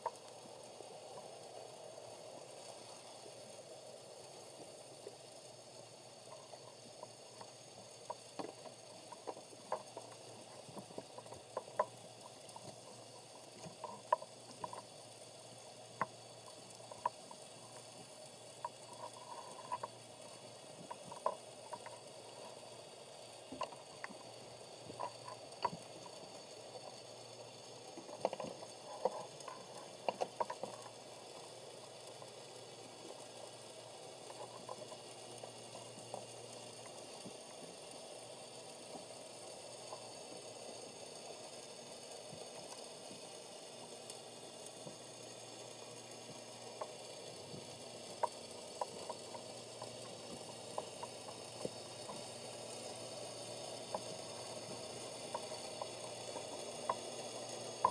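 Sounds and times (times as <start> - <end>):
faint underwater hiss: 0.0 - 57.9
underwater clicks and ticks: 0.0 - 57.9.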